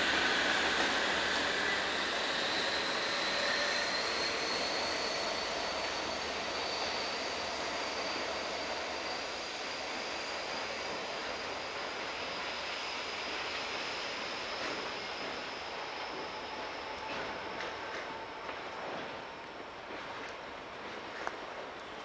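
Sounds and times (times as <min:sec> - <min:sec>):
high rising whistle: 0:00.0 - 0:19.4
diesel train engine drone: 0:00.0 - 0:22.0.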